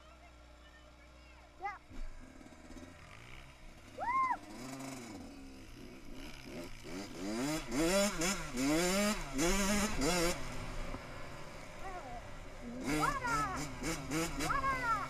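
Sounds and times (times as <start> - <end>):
dirt bike engine revving: 1.8 - 15.0.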